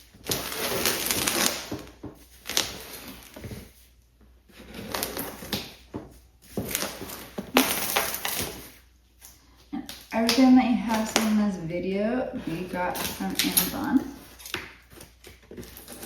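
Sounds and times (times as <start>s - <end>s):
rustling and crinkling: 0.0s - 16.0s.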